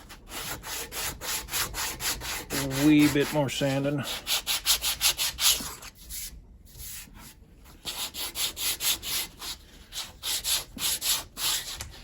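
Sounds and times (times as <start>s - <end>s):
sandpaper rubbing on wood: 0.0s - 7.1s, 7.8s - 12.0s.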